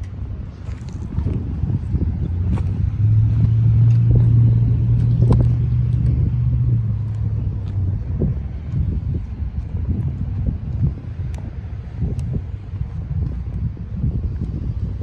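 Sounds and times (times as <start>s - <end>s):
freight train wheels rumbling on rail: 0.0s - 15.0s
low hum: 0.0s - 15.0s.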